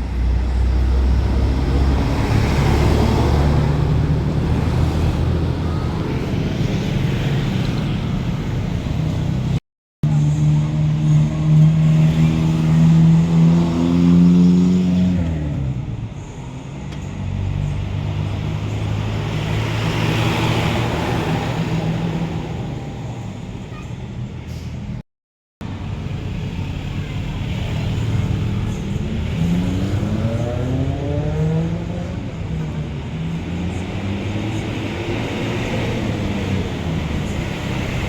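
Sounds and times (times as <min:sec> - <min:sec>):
bus engine running: 0:00.0 - 0:14.6, 0:15.2 - 0:25.0, 0:25.6 - 0:31.0, 0:31.8 - 0:38.0
bus accelerating past: 0:00.0 - 0:25.0, 0:25.6 - 0:38.0.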